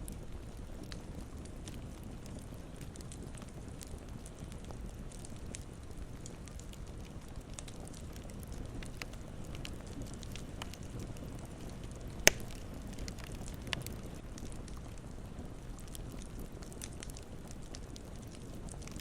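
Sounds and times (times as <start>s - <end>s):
campfire burning: 0.0s - 19.0s
fire crackles: 0.0s - 19.0s
fire popping: 0.0s - 19.0s.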